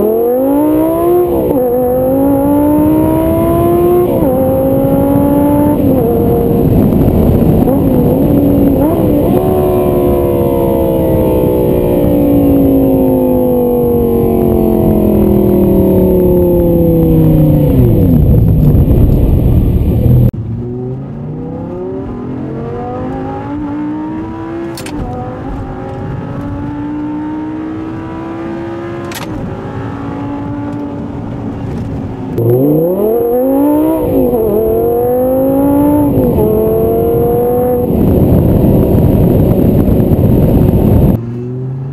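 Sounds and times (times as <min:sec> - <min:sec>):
sports car engine revving: 0:00.0 - 0:31.6, 0:32.3 - 0:41.9.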